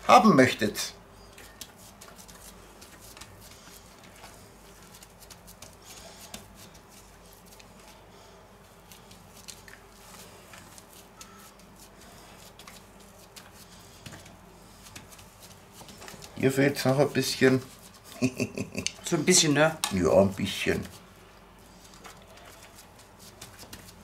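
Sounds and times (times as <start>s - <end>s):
gloved hands patting minced meat: 1.2s - 19.1s, 19.8s - 24.0s.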